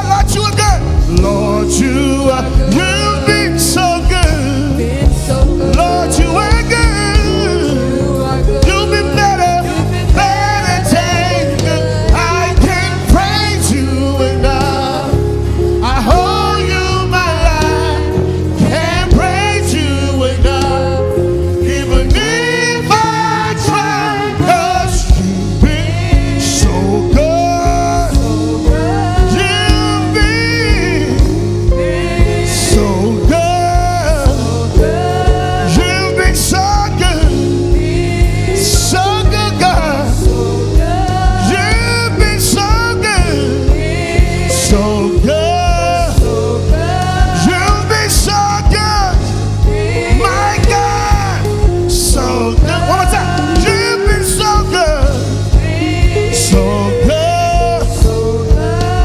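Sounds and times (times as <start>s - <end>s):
gospel band playing: 0.0s - 59.0s
people singing: 0.0s - 59.0s.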